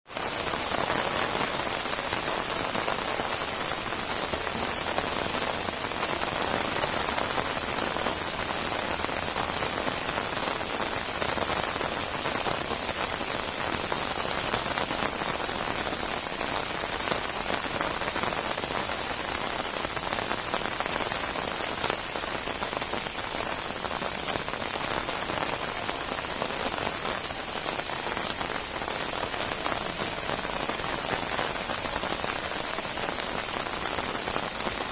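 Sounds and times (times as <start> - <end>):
heavy rain pattering: 0.1 - 34.9.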